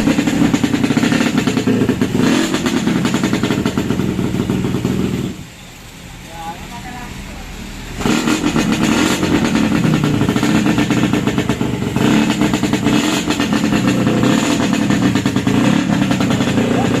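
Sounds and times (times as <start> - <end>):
two-stroke motorcycle engine running: 0.0 - 5.4, 8.0 - 17.0.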